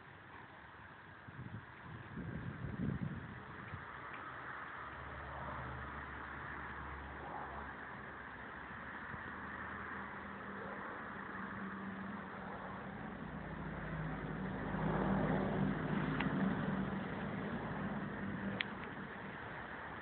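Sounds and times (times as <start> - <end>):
engine running low hum: 0.0 - 20.0.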